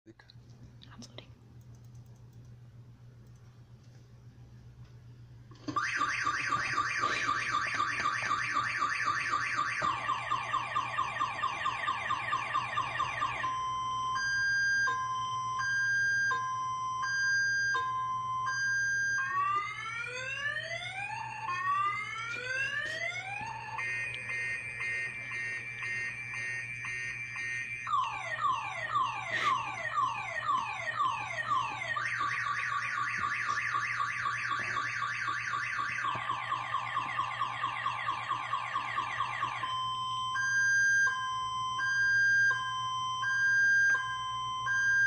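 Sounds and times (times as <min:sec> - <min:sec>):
car alarm siren: 0:05.6 - 0:45.0.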